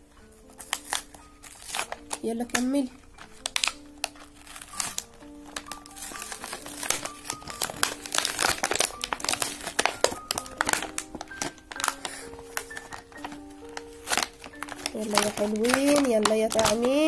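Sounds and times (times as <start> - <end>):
simple background music: 0.0 - 17.0
plastic packaging crinkling: 0.4 - 17.0.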